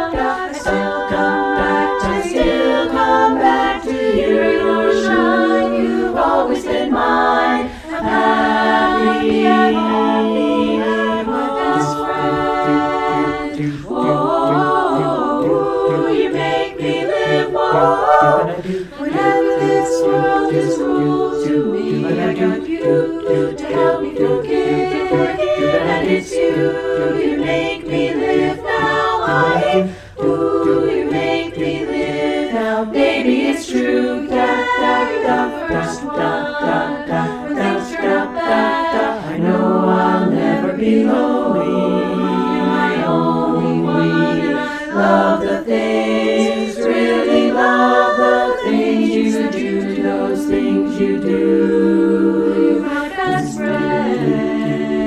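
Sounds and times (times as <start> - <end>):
women's a cappella chorus singing: 0.0 - 55.0.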